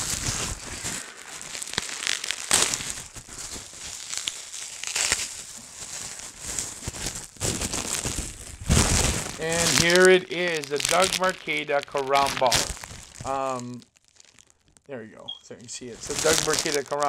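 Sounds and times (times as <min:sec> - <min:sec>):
bubble wrap crinkling: 0:00.0 - 0:15.0, 0:15.7 - 0:17.0.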